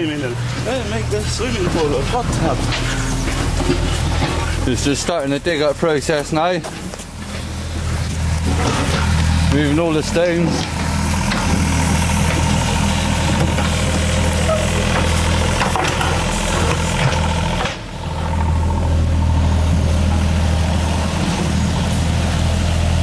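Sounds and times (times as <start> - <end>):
excavator diesel engine droning: 0.0 - 23.0.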